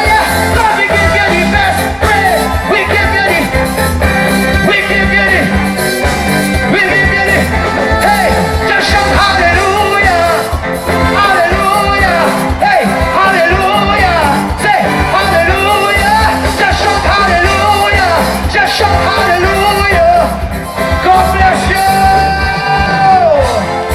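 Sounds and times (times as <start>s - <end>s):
live band playing gospel music: 0.0s - 23.9s
person singing: 0.0s - 23.9s.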